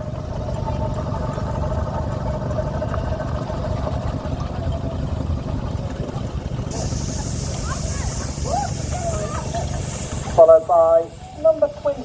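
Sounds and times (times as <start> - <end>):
engine running: 0.0 - 12.0
steady hum: 0.0 - 12.0.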